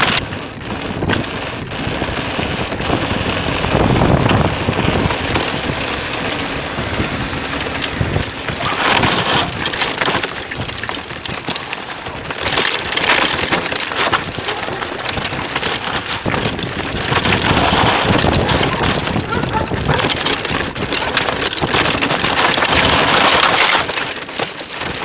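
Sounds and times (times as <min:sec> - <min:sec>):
wind on microphone: 0:00.0 - 0:24.0
bike clicks and rattles: 0:00.0 - 0:25.0
bike tyres crunching on gravel: 0:00.0 - 0:25.0.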